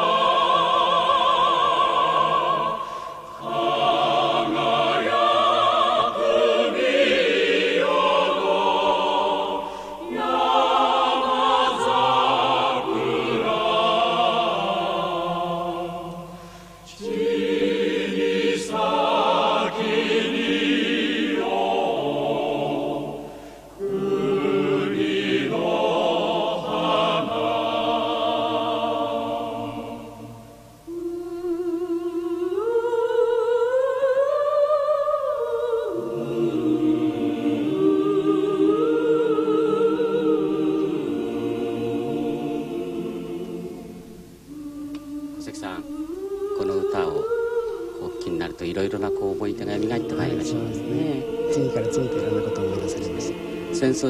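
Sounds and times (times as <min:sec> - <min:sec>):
choral singing with vibrato: 0:00.0 - 0:54.0.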